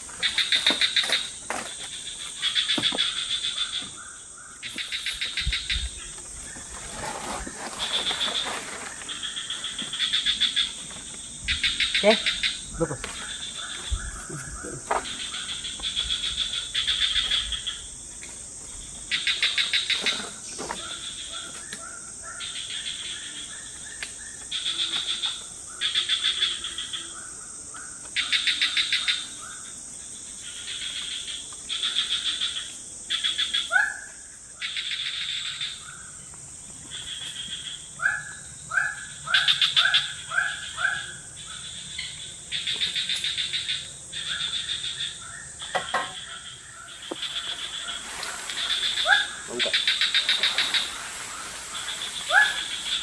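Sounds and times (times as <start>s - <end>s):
steady high insect whine: 0.0s - 53.0s.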